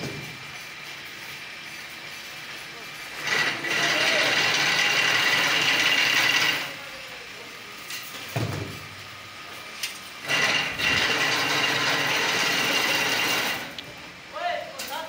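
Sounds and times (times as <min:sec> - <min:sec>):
weaving machine whirring and whining: 0:00.0 - 0:07.8, 0:09.3 - 0:15.0.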